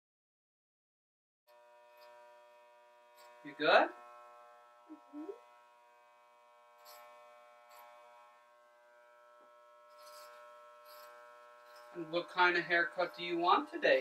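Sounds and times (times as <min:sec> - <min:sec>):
electric hair clippers buzzing: 0:01.5 - 0:14.0.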